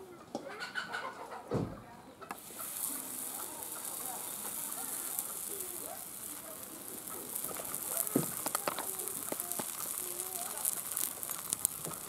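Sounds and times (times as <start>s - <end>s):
flatbread sizzling on hot griddle: 2.3s - 12.0s.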